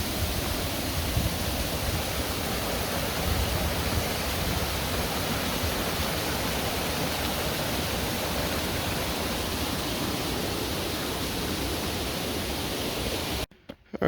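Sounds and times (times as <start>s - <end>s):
water pouring over dam: 0.0s - 13.5s.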